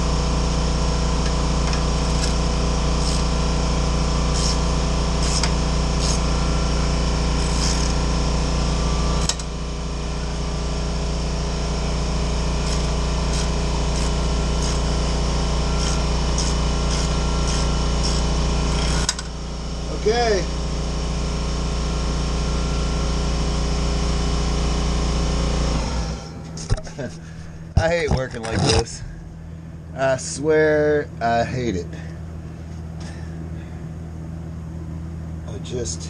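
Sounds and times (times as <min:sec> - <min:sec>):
motor humming: 0:00.0 - 0:20.5, 0:22.1 - 0:36.0.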